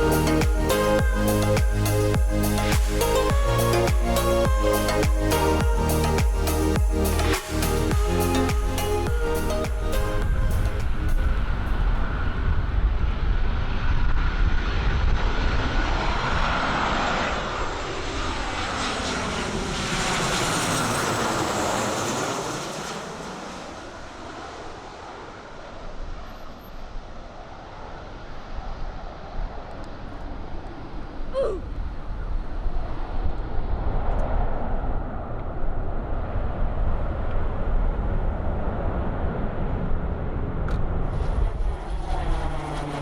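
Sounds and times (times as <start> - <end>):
wind rumbling on microphone: 0.0 - 23.2, 25.4 - 43.0
aircraft engine passing: 0.0 - 30.9, 32.6 - 43.0.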